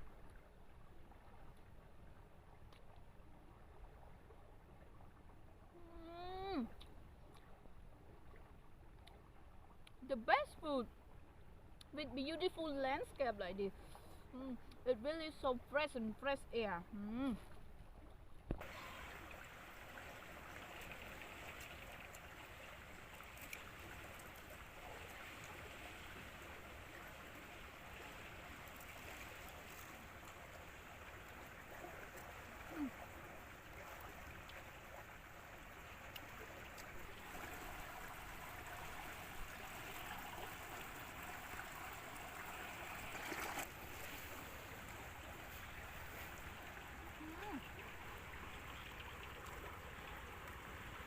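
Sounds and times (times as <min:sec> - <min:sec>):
faint outdoor background hiss: 0:00.0 - 0:51.0.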